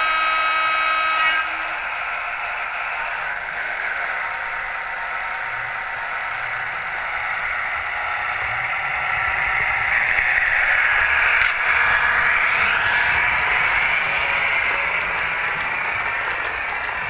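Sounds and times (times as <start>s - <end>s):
model train engine sound: 0.0s - 17.0s
model train running hiss: 0.0s - 17.0s.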